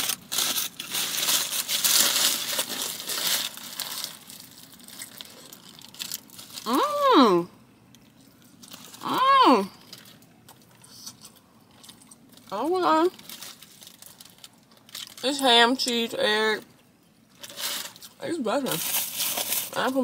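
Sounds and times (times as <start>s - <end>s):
foil wrapper crinkling: 0.0s - 6.8s, 8.0s - 11.2s, 11.8s - 15.9s, 17.3s - 20.0s.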